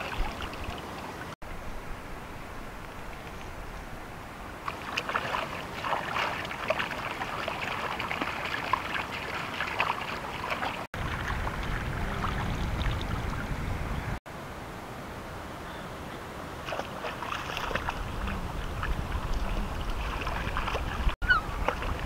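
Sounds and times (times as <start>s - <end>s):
water splashing and sloshing: 0.0s - 1.6s, 2.5s - 14.1s, 16.4s - 22.0s.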